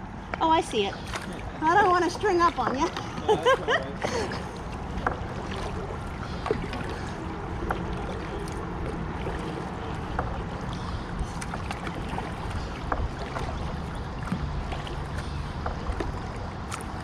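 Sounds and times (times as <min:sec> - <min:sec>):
paddle splashing and dripping: 0:00.0 - 0:17.0
water washing: 0:00.4 - 0:17.0.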